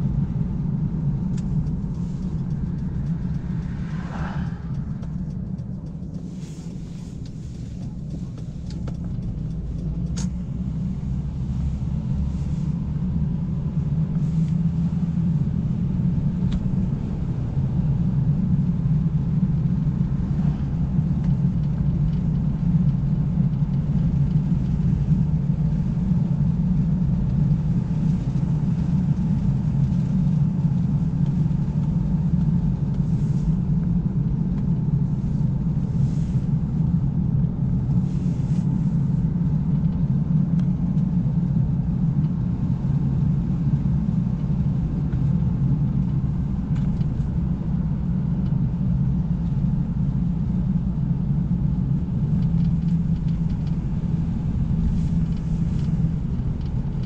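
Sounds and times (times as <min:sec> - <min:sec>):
car engine and tyre drone: 0:00.0 - 0:57.0.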